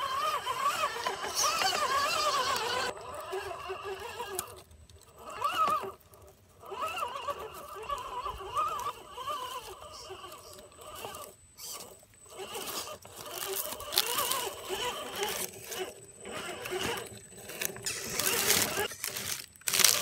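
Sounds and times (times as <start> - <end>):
small electric motor whining: 0.0 - 20.0
tyres crunching on rocks and leaves: 0.1 - 20.0.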